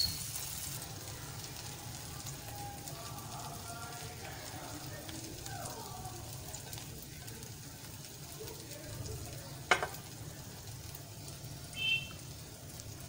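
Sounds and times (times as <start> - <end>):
bread sizzling in a frying pan: 0.0 - 13.0.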